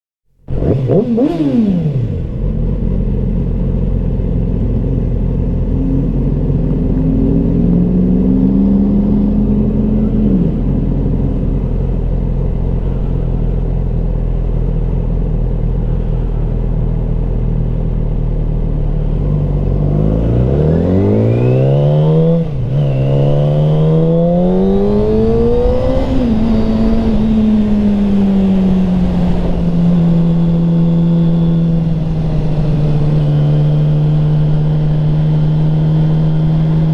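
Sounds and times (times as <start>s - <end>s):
low wind rush: 0.4s - 36.9s
motorcycle engine revving: 0.4s - 36.9s.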